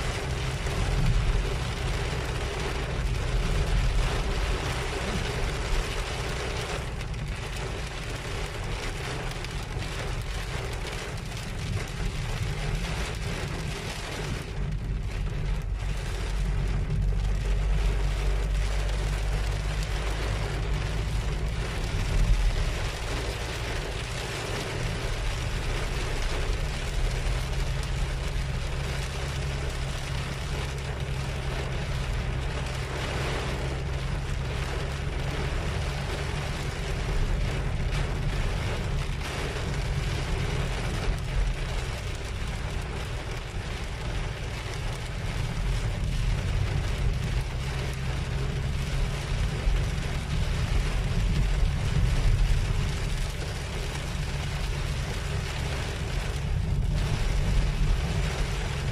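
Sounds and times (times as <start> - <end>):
car engine humming: 0.0 - 58.9
heavy rain on car roof: 0.0 - 58.9.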